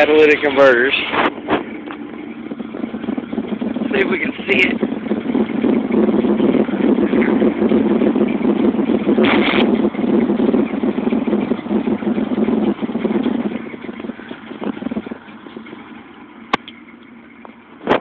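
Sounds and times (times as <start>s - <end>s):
car exhaust rumble: 0.0s - 18.0s.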